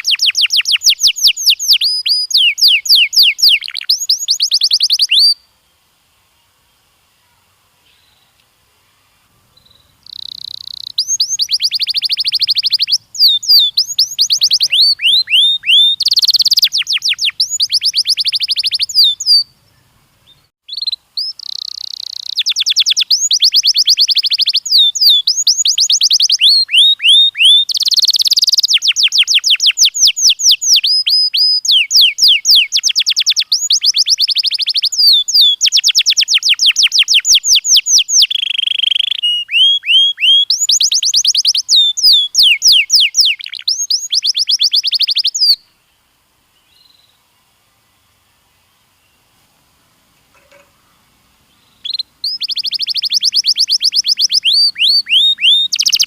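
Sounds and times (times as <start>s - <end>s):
canary singing trills: 0.0s - 5.5s, 9.2s - 45.7s, 50.3s - 56.0s.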